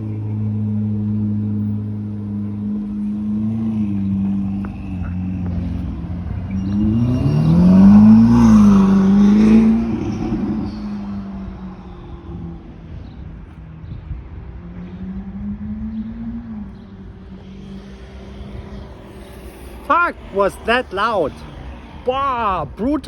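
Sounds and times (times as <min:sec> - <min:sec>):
sports car engine revving: 0:00.0 - 0:23.0.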